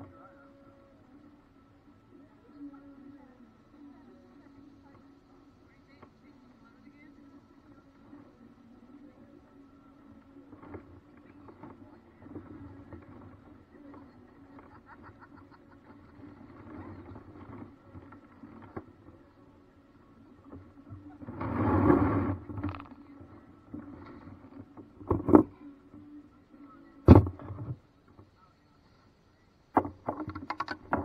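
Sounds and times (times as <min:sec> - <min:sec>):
low water noise: 0:00.0 - 0:31.0.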